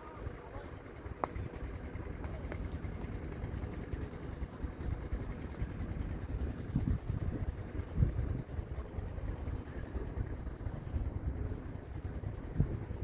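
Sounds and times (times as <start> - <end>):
wind buffeting microphone: 1.4 - 13.0.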